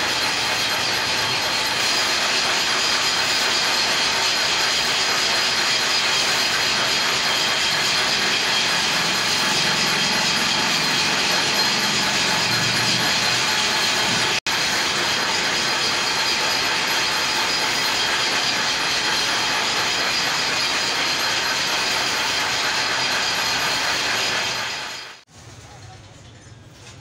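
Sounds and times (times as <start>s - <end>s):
wire-crimping machine clattering: 0.0s - 25.2s.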